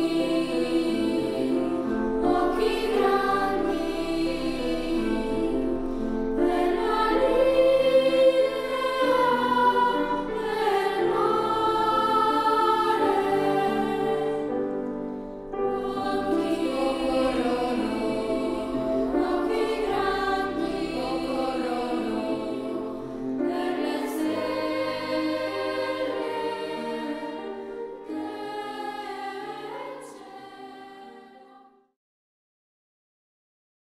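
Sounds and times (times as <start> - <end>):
children's choir singing: 0.0 - 31.8.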